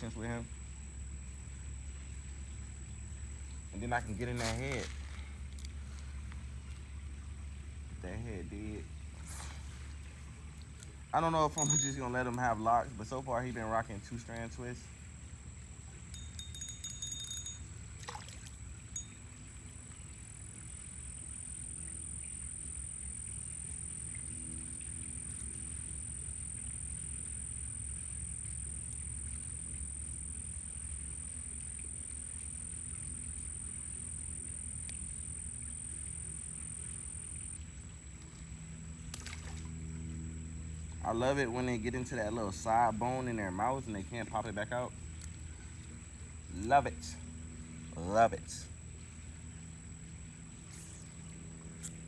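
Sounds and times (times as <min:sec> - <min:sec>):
thin high-pitched whine: 0:00.0 - 0:06.2, 0:11.1 - 0:52.0.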